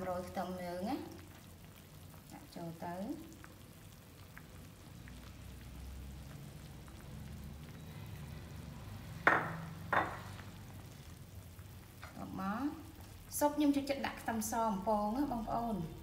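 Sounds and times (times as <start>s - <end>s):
soup simmering and bubbling: 0.0s - 16.0s.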